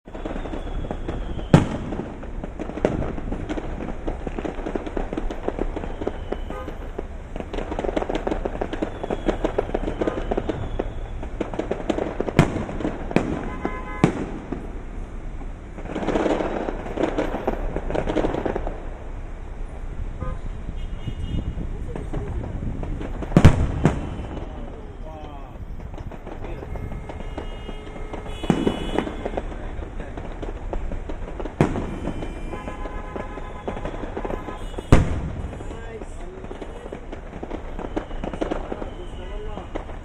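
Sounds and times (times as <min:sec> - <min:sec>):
fireworks crackling: 0:00.0 - 0:40.0
loud firework bangs: 0:00.1 - 0:40.0.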